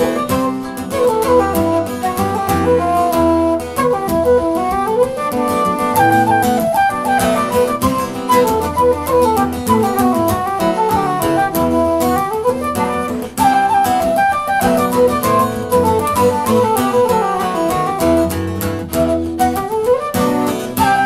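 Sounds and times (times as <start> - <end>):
acoustic guitar chords: 0.0 - 21.0
small wind instrument melody: 0.0 - 21.0.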